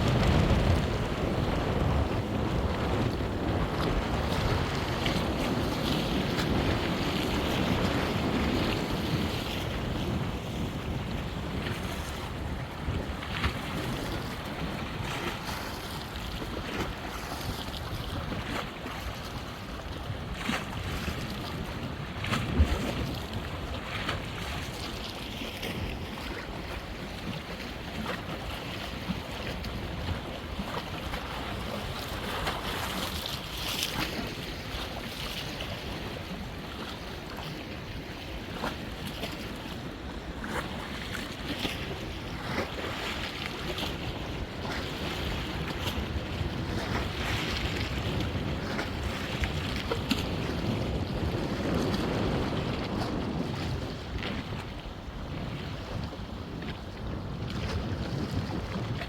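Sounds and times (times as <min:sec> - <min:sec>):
waves splashing: 0:00.0 - 0:59.0
wind buffeting microphone: 0:00.0 - 0:59.0.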